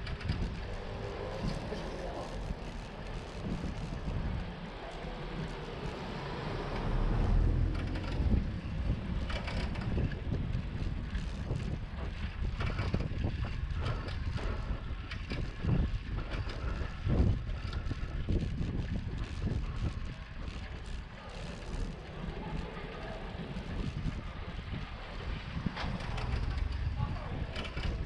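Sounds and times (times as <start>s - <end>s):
bicycle tyre rumble: 0.0s - 28.0s
bike clicks and rattles: 0.0s - 28.0s
wind buffeting microphone: 0.0s - 28.0s.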